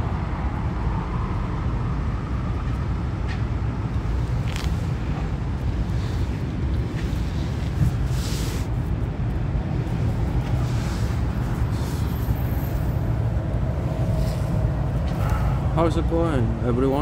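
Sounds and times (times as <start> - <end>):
low rumble of outdoor noise: 0.0 - 17.0.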